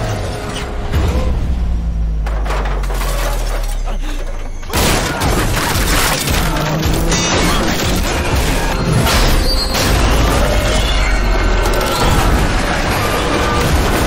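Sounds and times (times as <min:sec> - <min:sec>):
dramatic music: 0:00.0 - 0:14.0
metal and glass crashing: 0:02.2 - 0:14.0.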